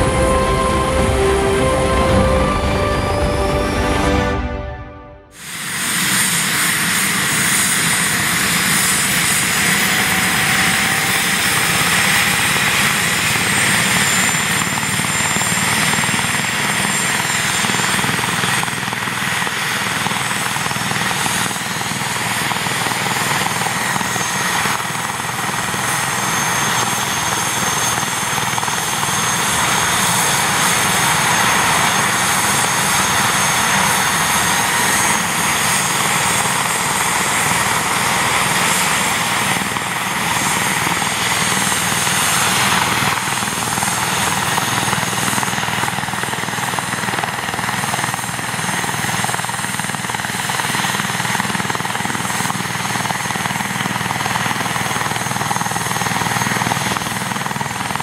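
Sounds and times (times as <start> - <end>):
helicopter rotor and engine: 0.0 - 58.0
turbine whine: 0.0 - 58.0.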